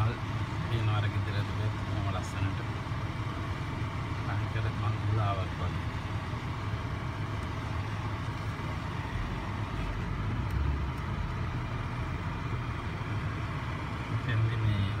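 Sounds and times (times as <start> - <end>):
car engine hum with road noise: 0.0 - 15.0.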